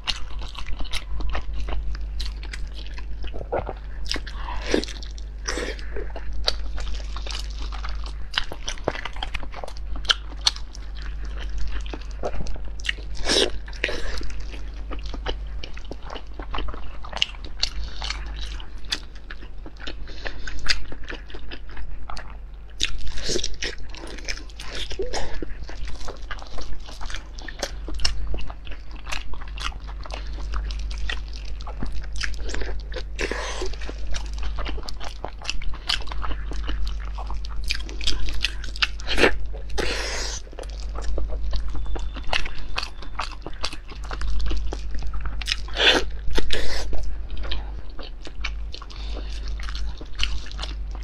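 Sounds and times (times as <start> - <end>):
chewing and mouth clicks: 0.0 - 51.0.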